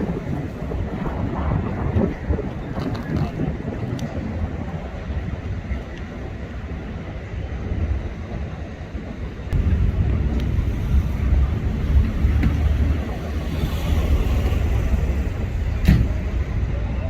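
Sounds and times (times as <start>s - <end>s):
vehicle engine rumbling: 0.0s - 17.0s
wind on microphone: 0.0s - 17.0s.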